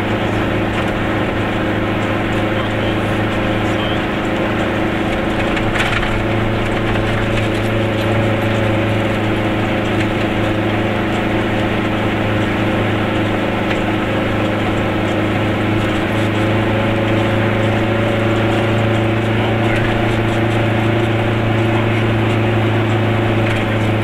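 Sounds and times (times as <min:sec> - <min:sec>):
small car engine droning: 0:00.0 - 0:24.0.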